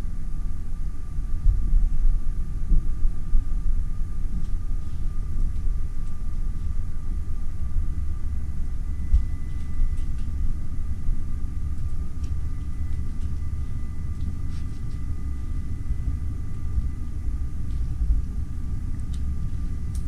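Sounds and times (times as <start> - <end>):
low machinery rumble: 0.0 - 20.0
thin steady whine: 0.0 - 20.0.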